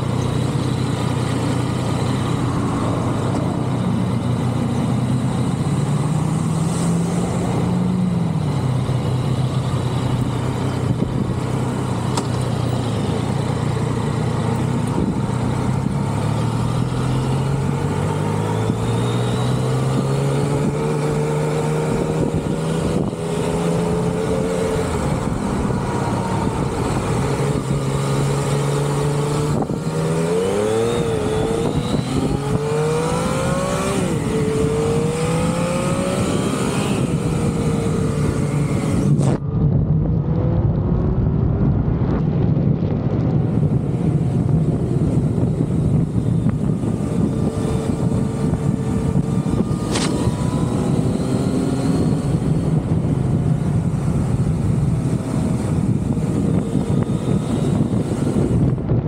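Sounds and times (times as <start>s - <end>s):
vehicle engine revving: 0.0s - 41.1s, 42.5s - 59.0s.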